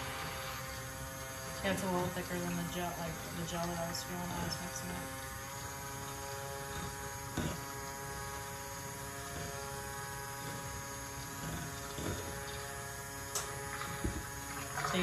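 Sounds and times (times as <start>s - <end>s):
immersion blender motor hum: 0.0s - 15.0s.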